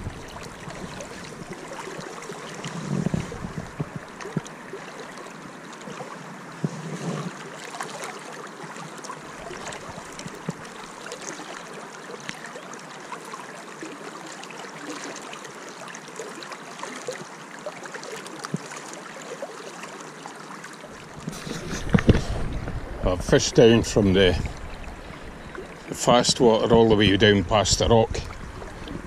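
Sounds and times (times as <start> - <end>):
small water splashes: 0.0 - 27.0, 28.1 - 29.0
river water rippling and lapping: 0.0 - 29.0.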